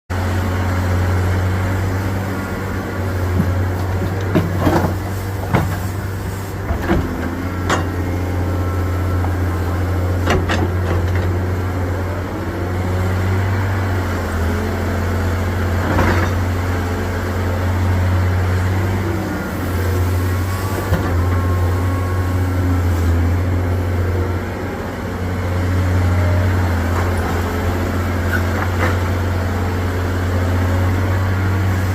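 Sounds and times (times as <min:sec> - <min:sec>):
excavator diesel engine hum: 0:00.1 - 0:31.9.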